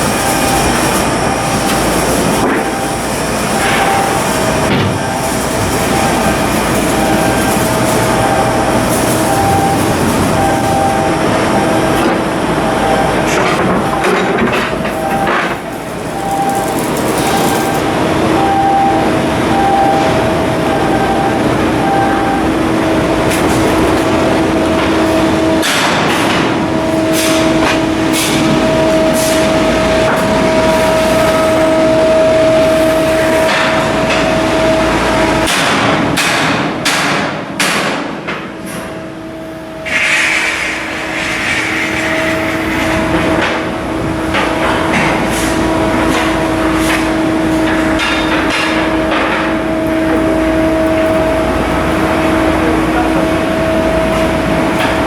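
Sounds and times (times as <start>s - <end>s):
steady machine hum: 0.0s - 36.8s, 38.9s - 55.0s.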